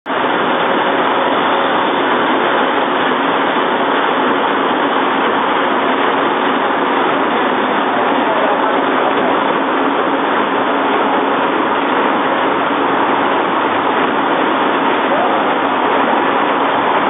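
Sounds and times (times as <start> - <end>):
tissue rolling machine running: 0.1 - 17.0.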